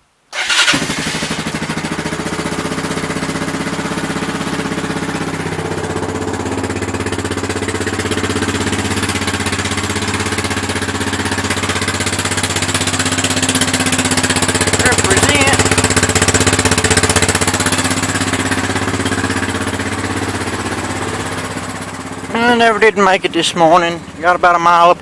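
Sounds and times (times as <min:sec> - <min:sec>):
atv engine idling: 0:00.4 - 0:25.0.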